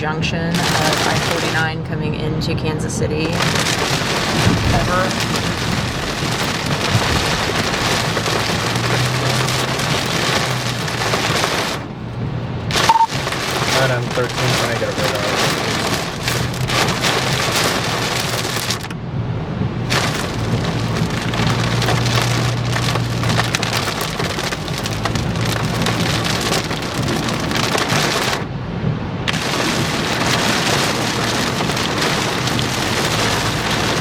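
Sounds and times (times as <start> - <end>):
heavy rain drumming on a vehicle roof: 0.0 - 34.0
low drone of moving vehicle: 0.0 - 34.0.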